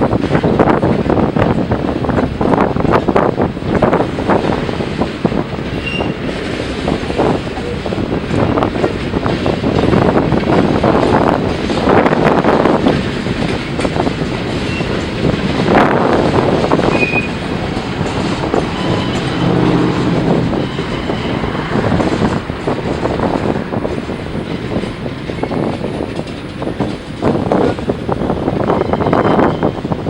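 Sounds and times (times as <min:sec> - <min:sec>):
train wheels clattering: 0:00.0 - 0:30.0
steel wheel squealing on rail: 0:03.9 - 0:30.0.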